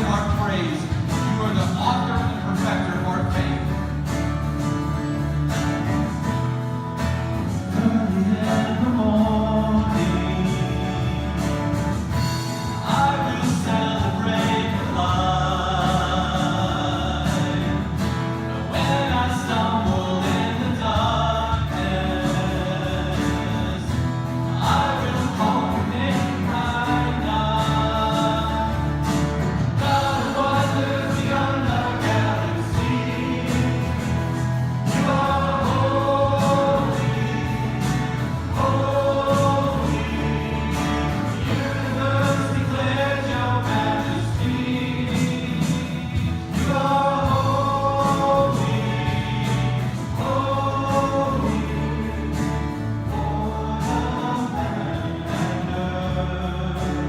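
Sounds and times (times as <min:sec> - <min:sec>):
instrumental accompaniment: 0:00.0 - 0:57.0
group singing worship song: 0:07.0 - 0:57.0.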